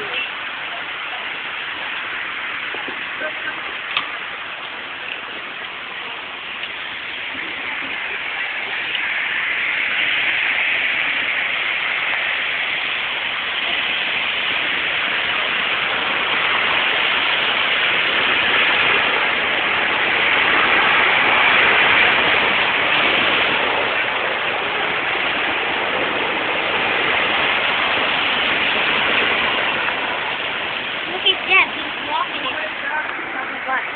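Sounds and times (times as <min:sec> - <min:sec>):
cars spraying water on flooded street: 0:00.0 - 0:33.9.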